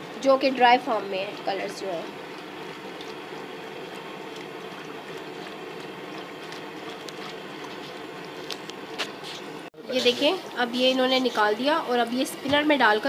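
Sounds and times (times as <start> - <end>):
dye bath bubbling: 0.0 - 13.0.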